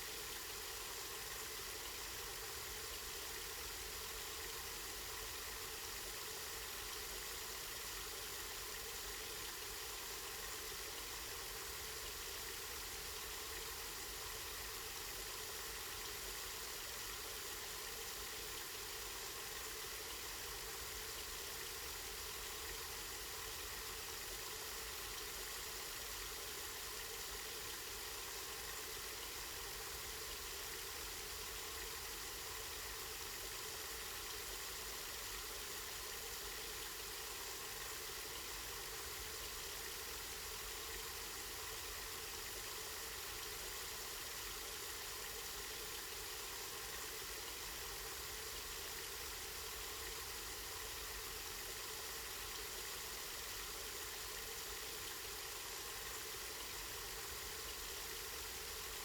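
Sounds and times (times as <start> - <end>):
spring water flowing: 6.0 - 59.0.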